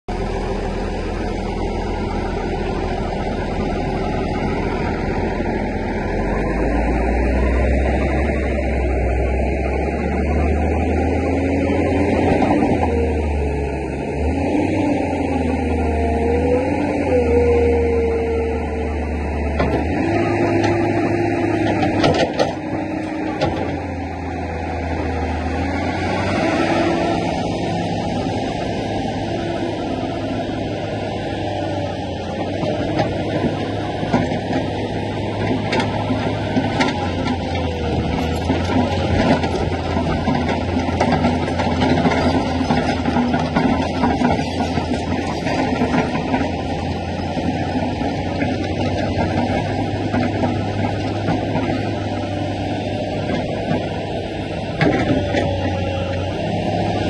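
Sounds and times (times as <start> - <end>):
excavator diesel engine rumble: 0.1 - 57.0.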